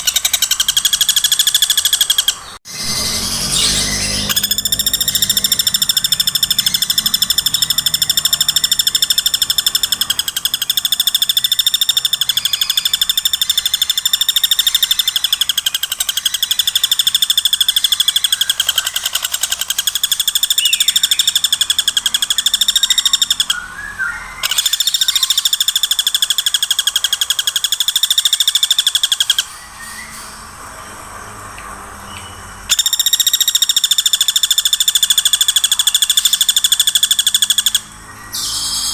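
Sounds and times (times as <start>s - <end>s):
woodpecker rattling call: 0.0s - 30.0s, 32.7s - 38.9s.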